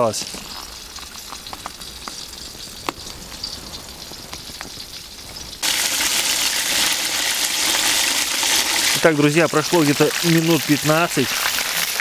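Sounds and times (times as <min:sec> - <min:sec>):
chicken deep-frying in oil: 0:00.0 - 0:12.0
sharp oil crackles: 0:00.0 - 0:12.0.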